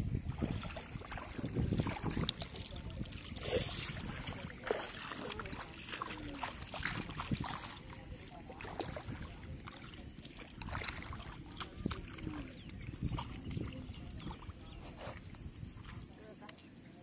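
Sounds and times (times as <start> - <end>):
wind rumbling on microphone: 0.0 - 16.7
splashing footsteps in shallow water: 0.0 - 17.0.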